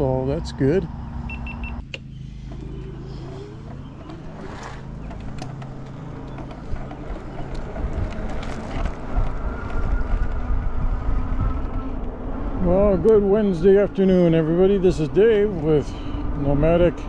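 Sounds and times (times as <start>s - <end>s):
vehicle motor humming: 0.0s - 17.0s
wind rumbling on microphone: 1.7s - 17.0s.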